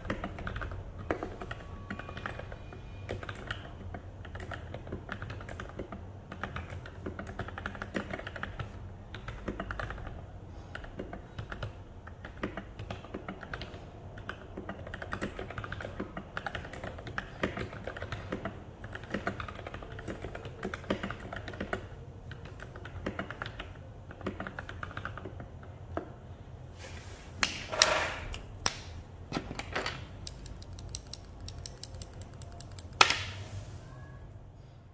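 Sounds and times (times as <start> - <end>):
typing on mechanical keyboard: 0.0 - 25.7, 30.2 - 33.3.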